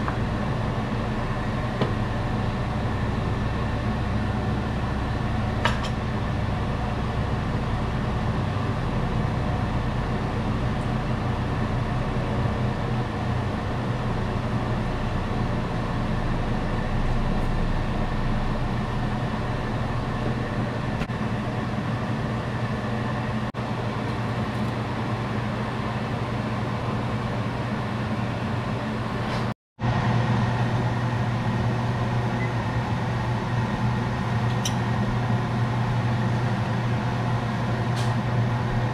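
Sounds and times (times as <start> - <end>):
mechanical hum: 0.0 - 38.9.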